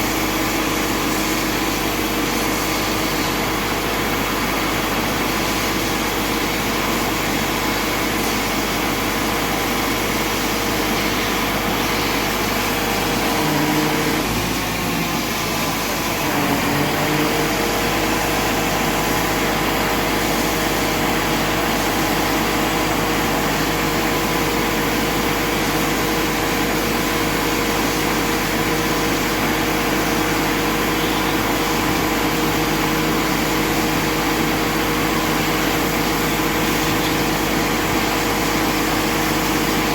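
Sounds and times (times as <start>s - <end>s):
crane engine humming and whining: 0.0s - 39.9s.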